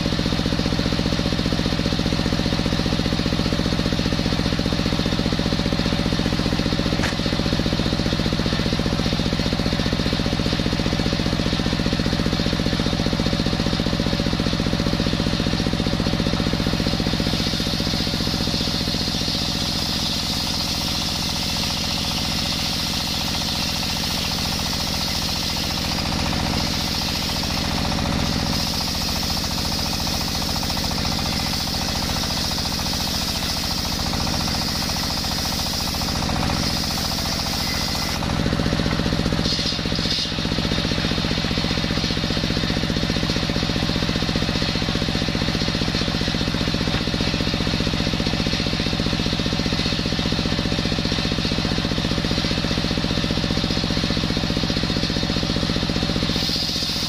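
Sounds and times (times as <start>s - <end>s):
diesel engine running: 0.0s - 57.0s
saw blade whining through wood: 0.0s - 57.0s.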